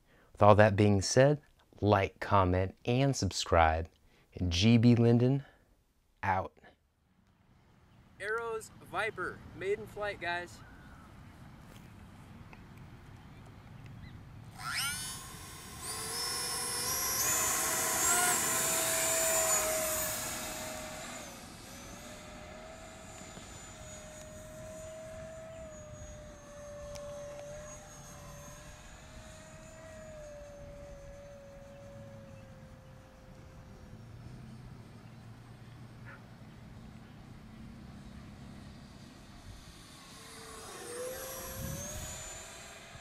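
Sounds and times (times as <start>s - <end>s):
model jet fan whining: 7.8s - 43.0s.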